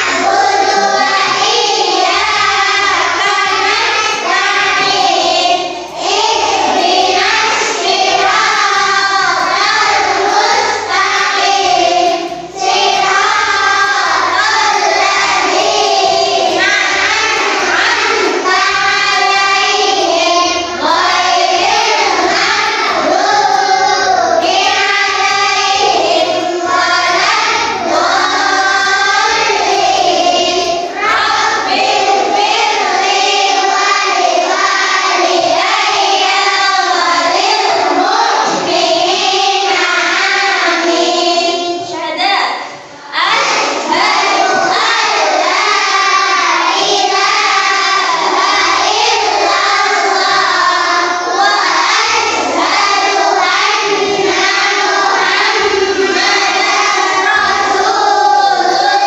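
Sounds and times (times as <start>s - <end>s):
children singing in chorus: 0.0s - 59.0s.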